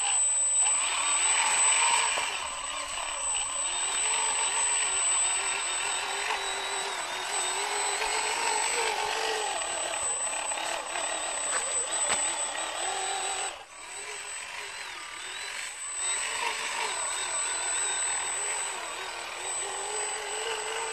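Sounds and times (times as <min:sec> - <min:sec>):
small electric motors whining: 0:00.0 - 0:20.9.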